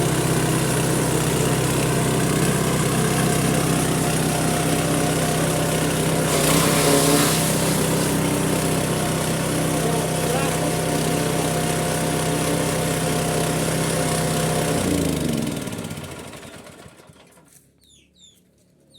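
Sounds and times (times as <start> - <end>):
machine engine running: 0.0 - 17.2.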